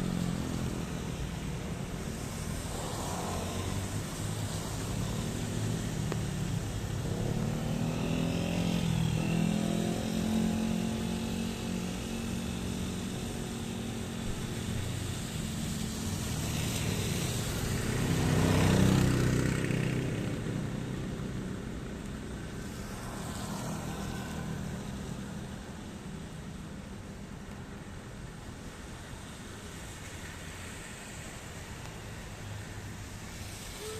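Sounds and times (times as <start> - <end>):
steady rain: 0.0 - 33.9
vehicles driving past: 0.0 - 33.9.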